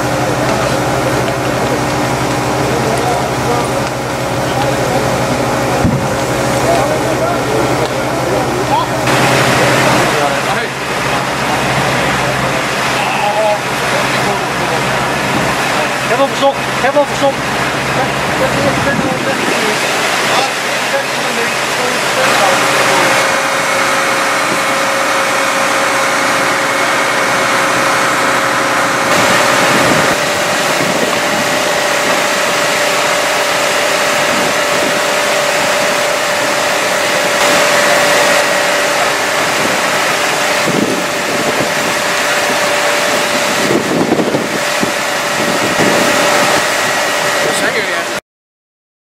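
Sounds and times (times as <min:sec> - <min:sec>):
fire engine pump hum: 0:00.0 - 0:48.2
water jets rushing: 0:00.0 - 0:48.2.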